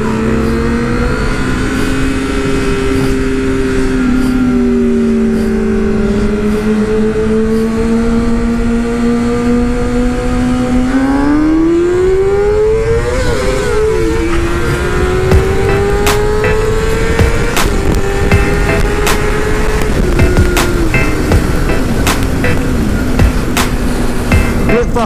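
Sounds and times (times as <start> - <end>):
motorcycle engine revving: 0.0 - 25.0
wind rumble: 0.0 - 25.0.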